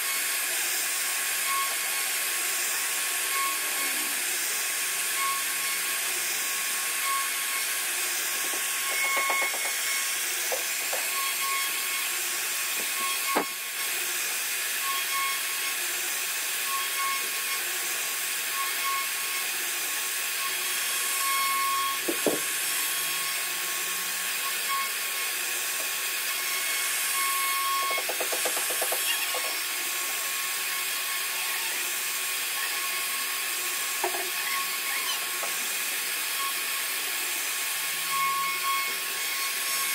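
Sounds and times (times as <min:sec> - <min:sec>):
router cutting wood: 0:00.0 - 0:39.9.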